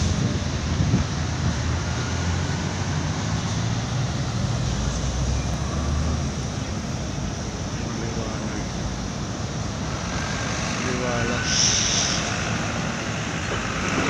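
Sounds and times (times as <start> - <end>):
road traffic hiss and rumble: 0.0 - 14.0.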